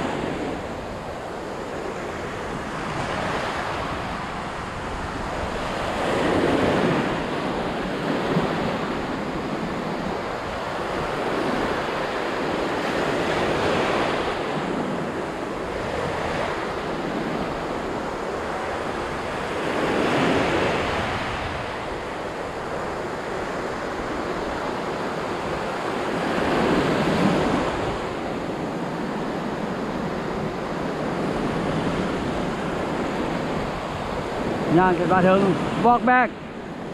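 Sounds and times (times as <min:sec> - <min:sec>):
ocean surf breaking on a beach: 0:00.0 - 0:36.9
wind on the microphone: 0:00.0 - 0:36.9.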